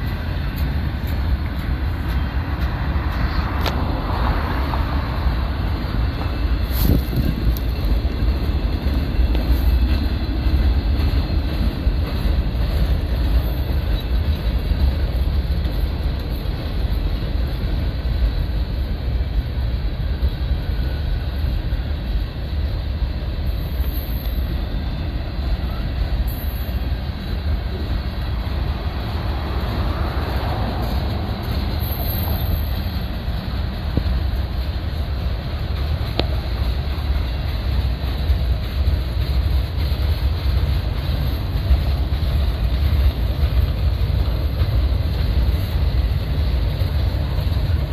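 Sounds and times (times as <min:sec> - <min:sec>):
freight train wheels on rails: 0:00.0 - 0:47.9.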